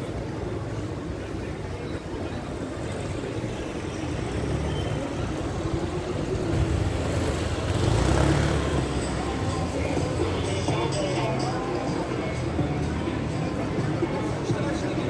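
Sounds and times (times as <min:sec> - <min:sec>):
faint crowd voices: 0:00.0 - 0:15.0
low street rumble: 0:00.0 - 0:15.0.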